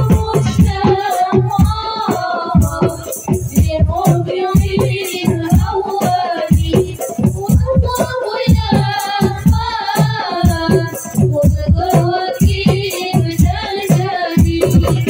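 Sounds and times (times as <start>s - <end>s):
frame drums playing: 0.0s - 15.0s
jingling rattling percussion: 0.0s - 15.0s
woman singing into a microphone: 0.0s - 15.0s.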